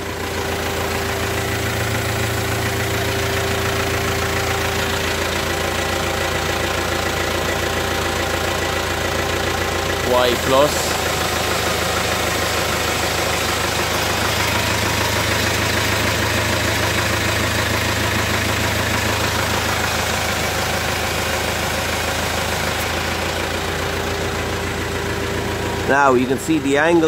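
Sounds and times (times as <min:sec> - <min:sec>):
engine and hydraulic pump running: 0:00.0 - 0:27.0.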